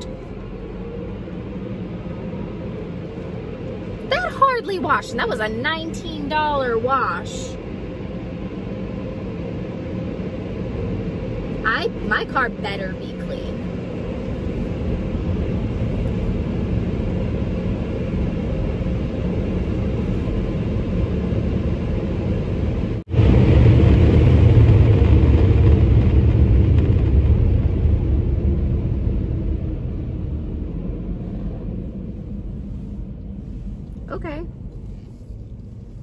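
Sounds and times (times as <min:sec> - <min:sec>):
car wash equipment rumbling: 0:00.0 - 0:36.0.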